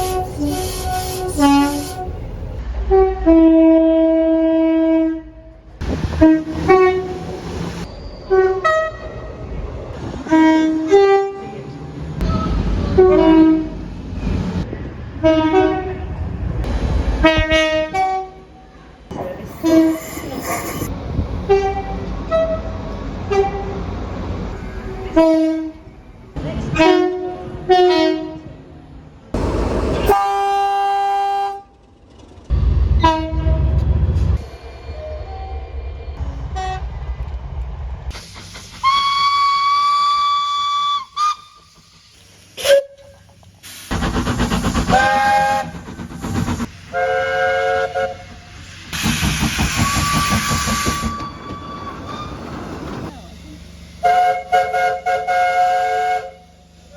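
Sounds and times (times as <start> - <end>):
rumble of moving trains: 0.0 - 56.9.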